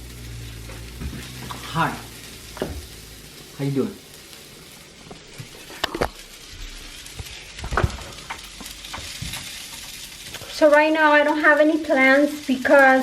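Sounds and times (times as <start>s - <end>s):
sausages sizzling in a frying pan: 0.0s - 13.0s.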